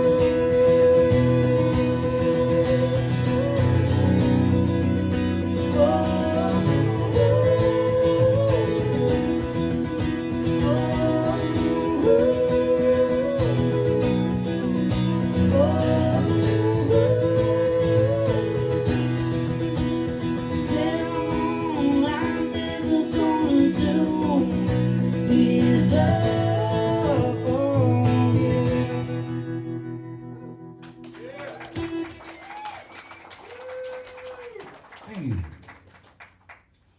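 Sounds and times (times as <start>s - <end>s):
acoustic guitar playing: 0.0s - 32.2s.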